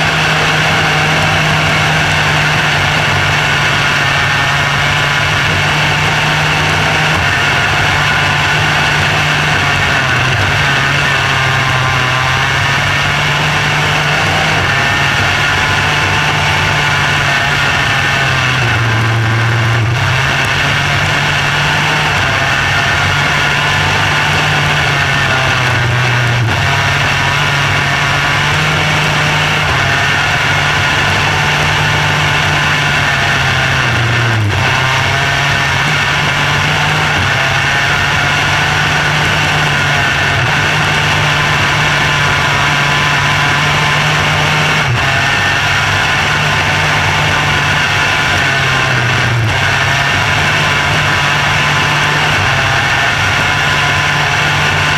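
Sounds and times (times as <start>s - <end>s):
race car engine running: 0.0s - 54.9s.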